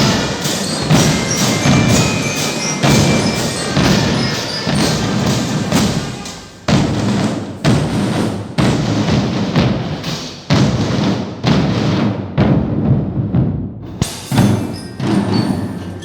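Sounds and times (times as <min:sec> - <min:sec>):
drums playing a steady beat: 0:00.0 - 0:15.9.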